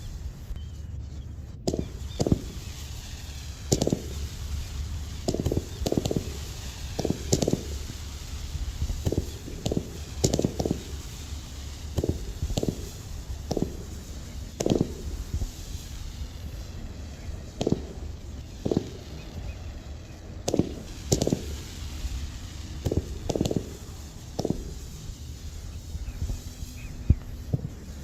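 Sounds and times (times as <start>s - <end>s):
muffled firework pops: 0.0s - 28.0s
steady low rumble: 0.0s - 28.0s.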